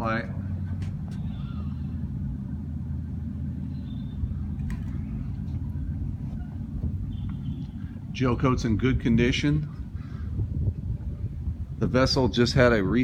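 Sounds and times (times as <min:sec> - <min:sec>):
faint mechanical hum: 0:00.0 - 0:13.0
low rumble: 0:00.0 - 0:13.0.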